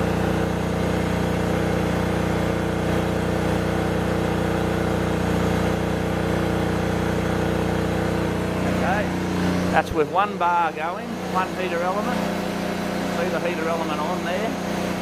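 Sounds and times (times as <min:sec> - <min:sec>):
generator running: 0:00.0 - 0:15.0
vacuum cleaners running: 0:00.0 - 0:15.0.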